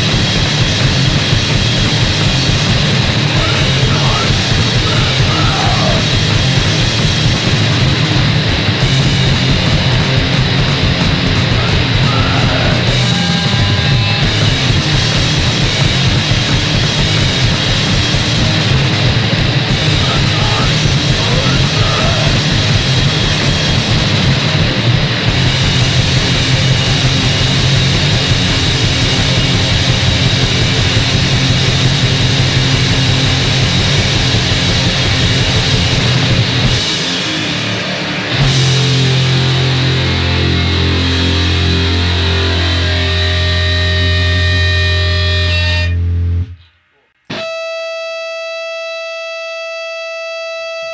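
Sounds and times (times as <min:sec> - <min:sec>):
loud punk rock song with guitar: 0:00.0 - 0:46.5.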